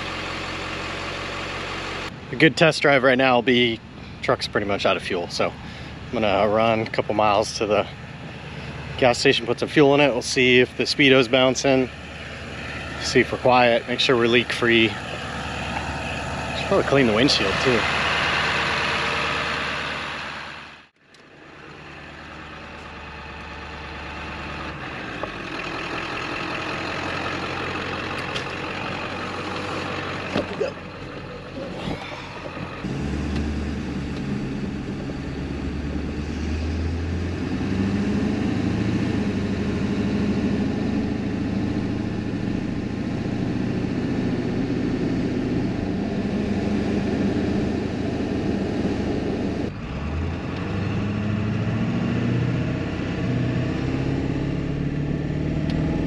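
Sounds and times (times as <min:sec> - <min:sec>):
pickup engine and road noise: 0:00.0 - 0:56.0.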